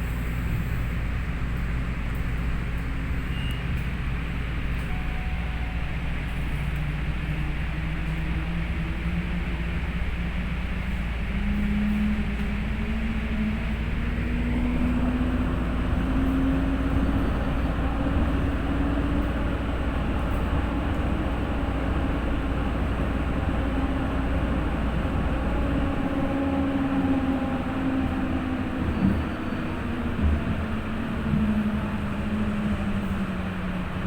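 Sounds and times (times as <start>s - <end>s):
tram hum: 0.0s - 34.0s.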